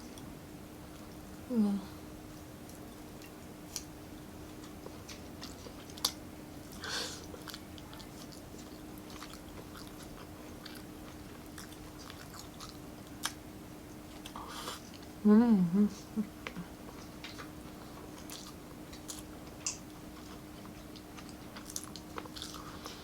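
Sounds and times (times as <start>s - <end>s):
faint steady hum: 0.0s - 23.0s
chewing food: 2.2s - 15.2s, 16.3s - 23.0s.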